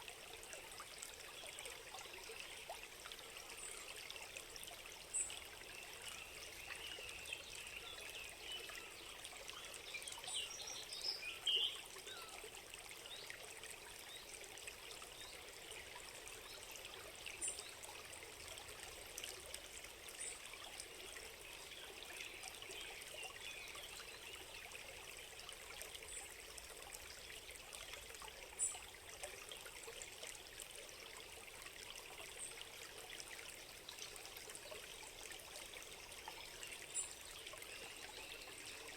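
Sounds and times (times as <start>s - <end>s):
stream trickling and babbling: 0.0s - 38.9s.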